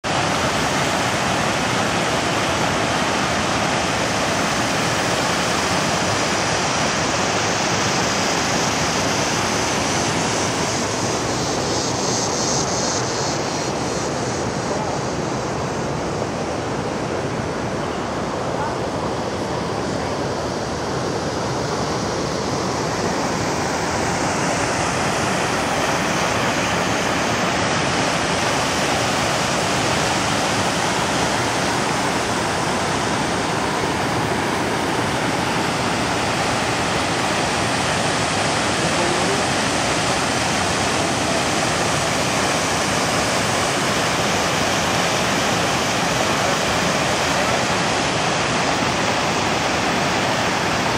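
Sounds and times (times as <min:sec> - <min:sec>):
river rapids rushing: 0:00.0 - 0:50.9.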